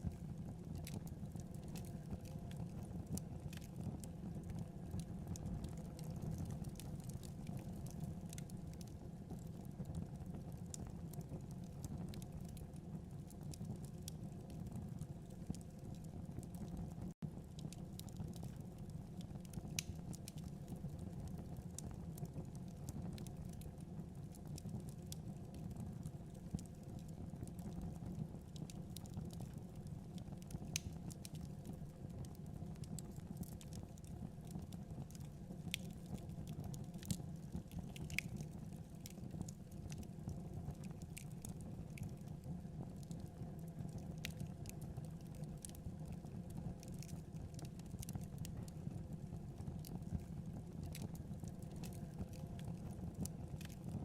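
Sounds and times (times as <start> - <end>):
fire burning with crackles: 0.0 - 54.0.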